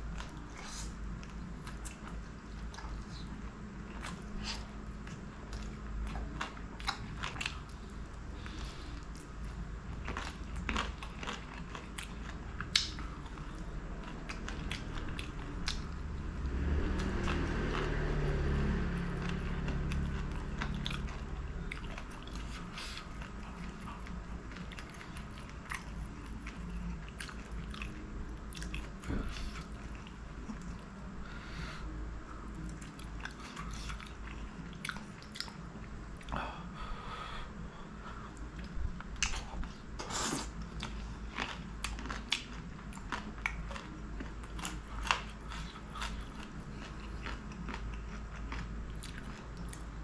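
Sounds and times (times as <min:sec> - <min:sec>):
chewing meat with mouth clicks: 0:00.0 - 0:31.1, 0:32.5 - 0:36.4, 0:40.5 - 0:50.0.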